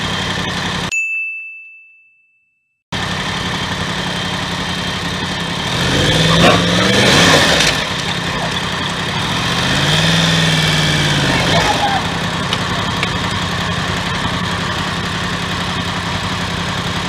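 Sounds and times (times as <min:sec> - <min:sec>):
motorcycle engine running: 0:00.0 - 0:00.9, 0:03.0 - 0:17.0.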